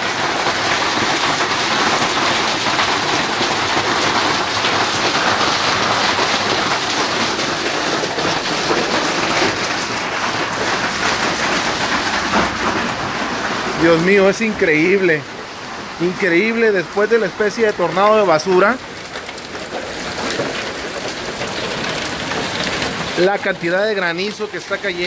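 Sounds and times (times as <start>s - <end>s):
hail and rain on metal roof: 0.0s - 25.0s.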